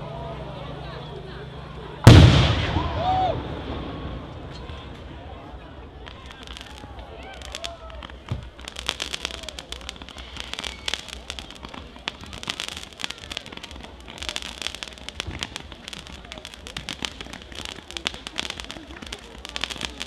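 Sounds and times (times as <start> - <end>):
fireworks popping and crackling: 2.0 - 20.0.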